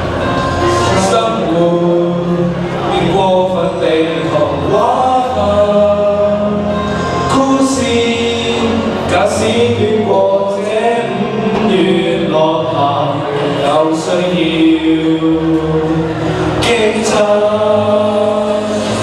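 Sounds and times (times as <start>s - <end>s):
backing music: 0.0s - 19.0s
person singing slow song: 0.0s - 19.0s.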